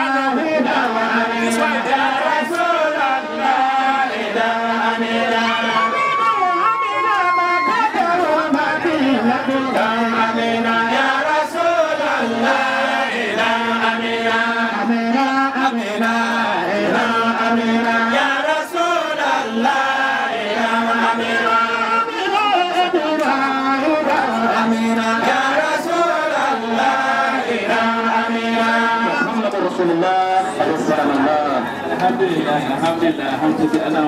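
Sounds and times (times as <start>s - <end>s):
voices chanting a devotional hymn: 0.0s - 34.0s.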